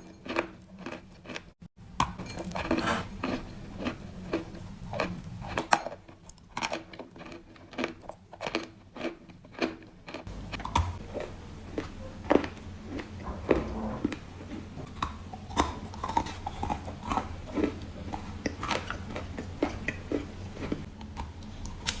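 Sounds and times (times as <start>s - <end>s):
crunchy balls crackling: 2.6s - 22.0s.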